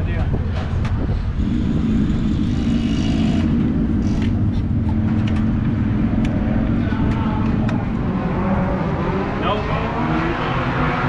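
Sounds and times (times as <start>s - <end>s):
race car engines rumbling: 0.0s - 11.0s.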